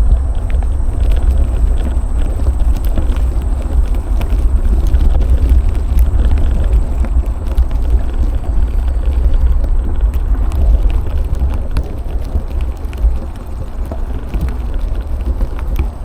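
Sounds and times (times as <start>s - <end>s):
bicycle tyre rumble: 0.0s - 16.0s
small clicks and ticks: 0.0s - 16.0s
wind buffeting microphone: 0.0s - 16.0s.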